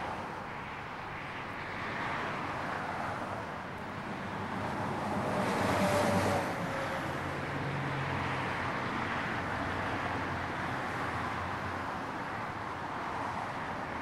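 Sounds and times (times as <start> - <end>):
highway traffic rushing: 0.0 - 14.0.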